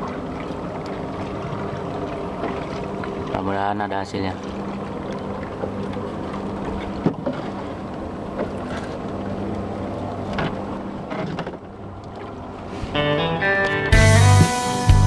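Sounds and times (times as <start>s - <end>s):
boat engine running: 0.0s - 15.0s
sea noise: 0.0s - 15.0s
wind: 0.0s - 15.0s.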